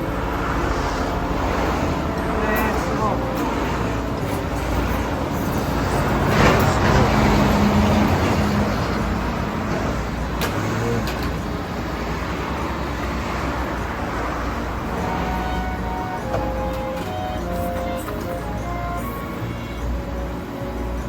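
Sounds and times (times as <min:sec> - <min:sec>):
road noise: 0:00.0 - 0:21.0
vehicle engine rumble: 0:00.0 - 0:21.0.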